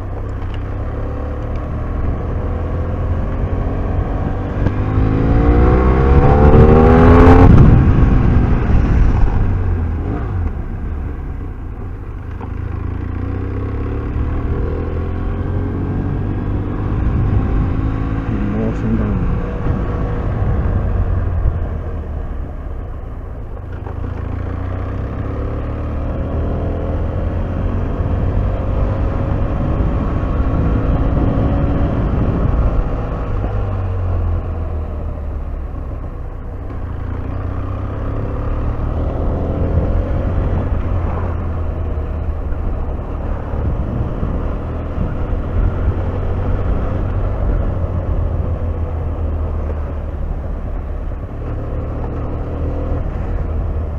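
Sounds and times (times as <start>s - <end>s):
motorcycle engine revving: 0.4s - 11.0s, 12.3s - 21.8s, 23.7s - 53.9s
wind noise: 1.6s - 12.8s, 14.1s - 22.6s, 26.2s - 34.8s, 37.8s - 53.9s.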